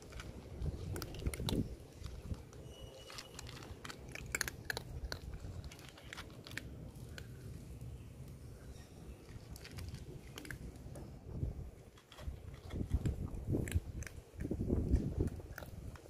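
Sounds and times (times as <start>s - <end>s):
cats crunching food: 0.0s - 16.0s.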